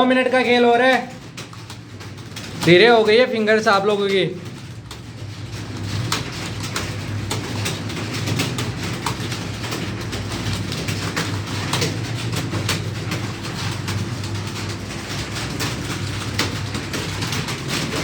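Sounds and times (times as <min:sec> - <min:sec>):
many keyboards clattering: 0:00.0 - 0:18.0.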